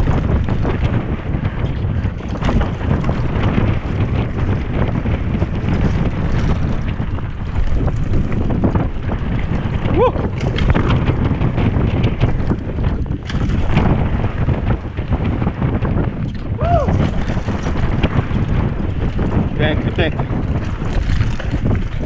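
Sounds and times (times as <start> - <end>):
mountain bike rumble and rattle: 0.0 - 22.0
wind buffeting microphone: 0.0 - 22.0.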